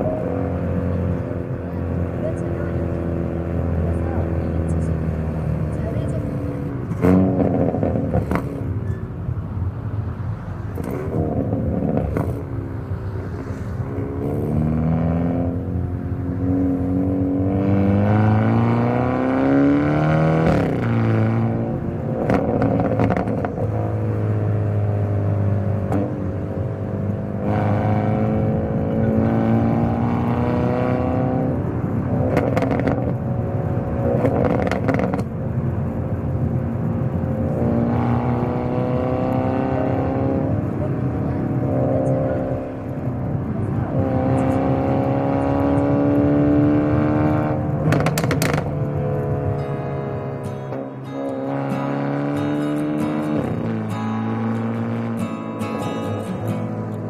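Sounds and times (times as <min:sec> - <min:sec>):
car engine and exhaust revving: 0:00.0 - 0:57.0.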